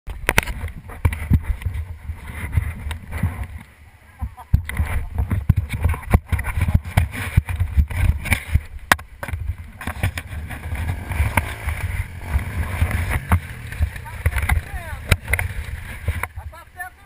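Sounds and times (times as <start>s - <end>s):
wind rumbling on microphone: 0.1s - 17.0s.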